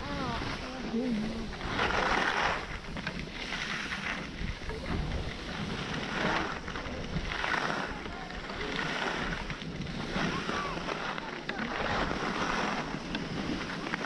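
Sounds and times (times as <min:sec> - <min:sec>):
ski edges scraping snow: 0:00.0 - 0:14.0
wind buffeting microphone: 0:00.0 - 0:14.0.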